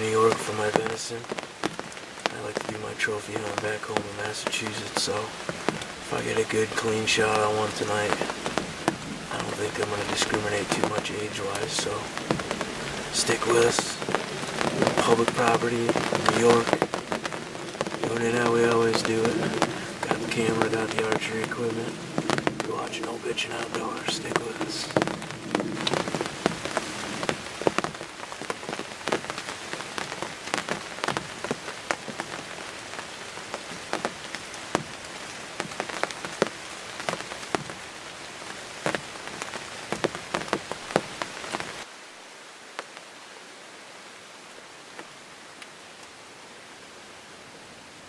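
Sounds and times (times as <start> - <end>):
drizzle patter: 0.0 - 41.9
raindrops tapping: 0.0 - 41.9
faint steady hiss: 0.0 - 48.0.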